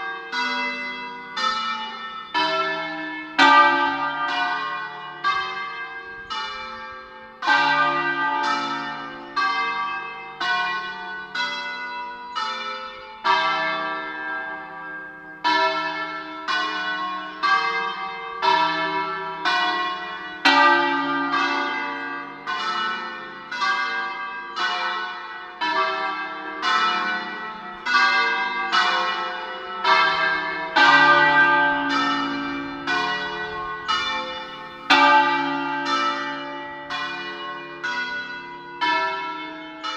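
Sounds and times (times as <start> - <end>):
church bells ringing a peal: 0.0 - 39.9.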